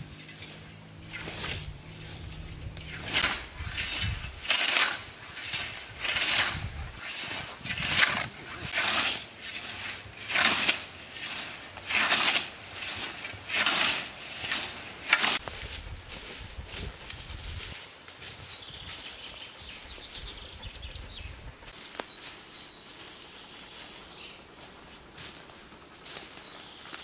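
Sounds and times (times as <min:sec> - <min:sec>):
scythe swishing through grass: 0:00.0 - 0:20.0, 0:21.4 - 0:27.0.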